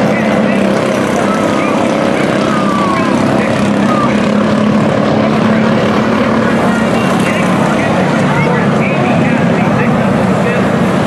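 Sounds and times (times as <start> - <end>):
race truck engines droning: 0.0 - 11.0.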